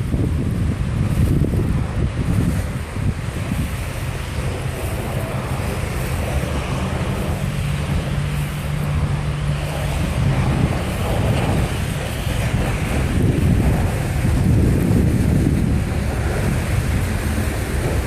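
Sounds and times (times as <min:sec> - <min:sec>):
vehicle engine low hum: 0:00.0 - 0:18.0
wind rumbling on microphone: 0:00.0 - 0:18.0.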